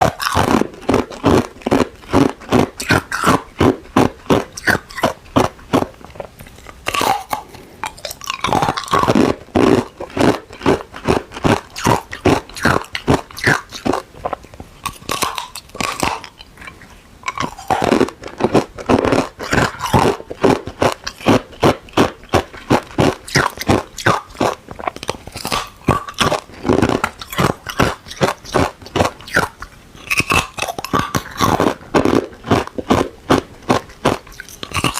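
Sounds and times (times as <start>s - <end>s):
ice being chewed: 0.0s - 34.9s.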